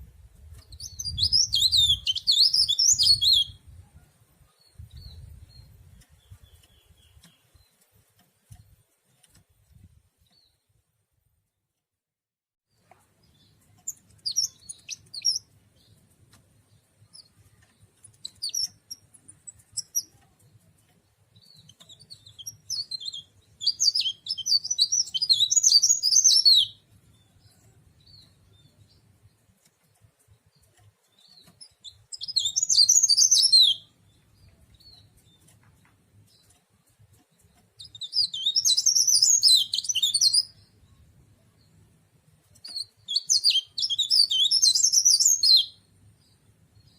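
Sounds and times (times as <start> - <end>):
leaf warbler singing: 0.0 - 3.8, 4.4 - 10.6, 12.8 - 46.9.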